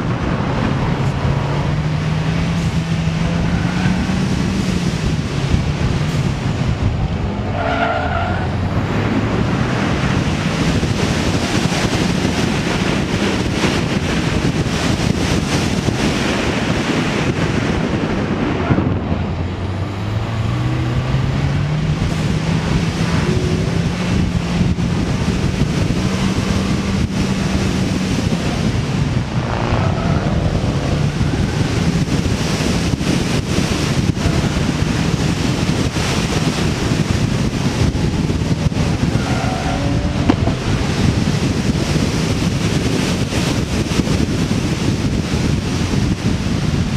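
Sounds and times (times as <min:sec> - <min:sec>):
car engine working hard: 0:00.0 - 0:46.9
wind noise: 0:00.0 - 0:46.9.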